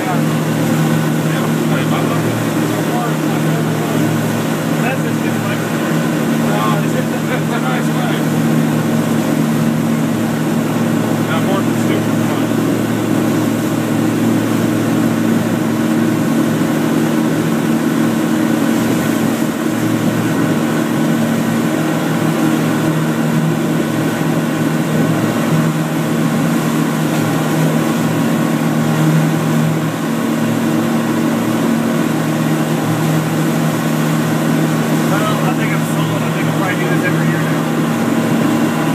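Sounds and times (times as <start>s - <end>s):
boat engine humming: 0.0s - 38.9s
rush of boat wake: 0.0s - 38.9s.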